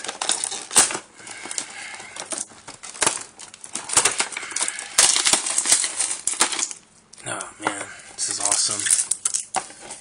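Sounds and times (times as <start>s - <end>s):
crackling plastic and cardboard: 0.0s - 10.0s.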